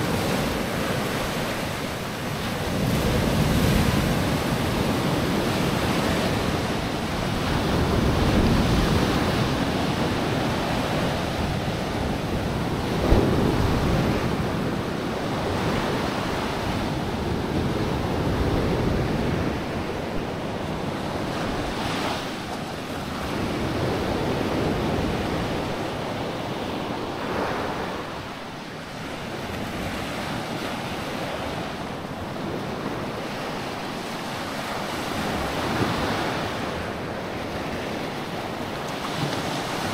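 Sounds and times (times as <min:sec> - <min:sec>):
wind buffeting microphone: 0:00.0 - 0:34.0
sea waves washing onto beach: 0:00.0 - 0:39.9.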